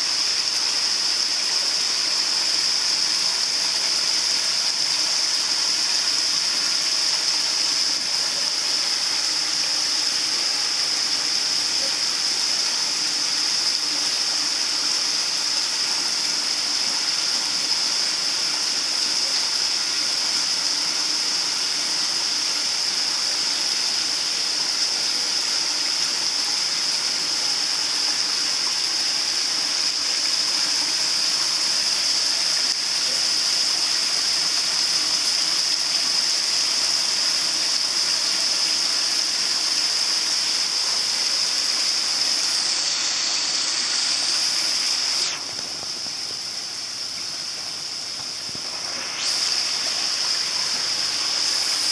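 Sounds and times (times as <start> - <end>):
water pouring into a pond: 0.0 - 51.9.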